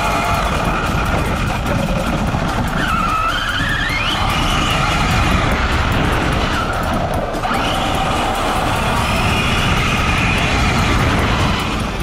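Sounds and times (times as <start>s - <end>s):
electric motor whining: 0.0s - 12.0s
low rumble of tyres: 0.0s - 12.0s.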